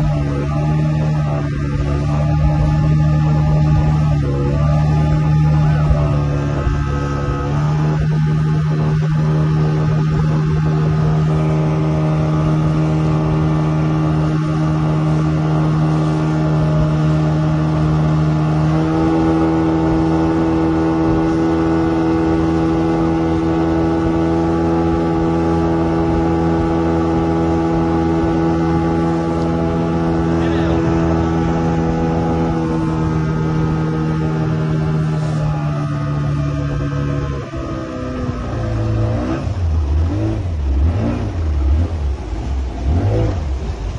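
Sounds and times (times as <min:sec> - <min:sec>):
motorboat engine running: 0:00.0 - 0:43.9.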